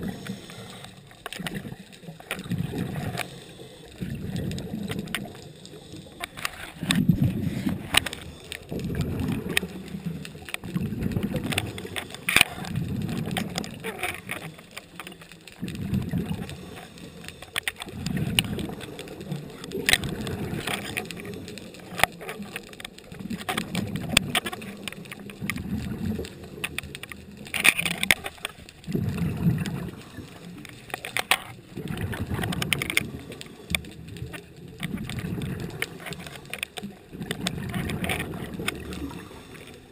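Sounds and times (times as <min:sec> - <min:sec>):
scattered clicks: 0:00.0 - 0:39.9
underwater breath bubbling: 0:00.0 - 0:39.9.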